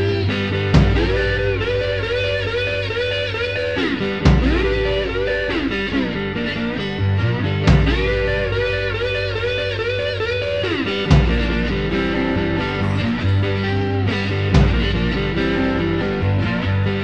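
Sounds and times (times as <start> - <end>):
blues lead guitar bending notes: 0.0 - 17.0
heavy low accent: 0.0 - 17.0
steady bass line: 0.0 - 17.0.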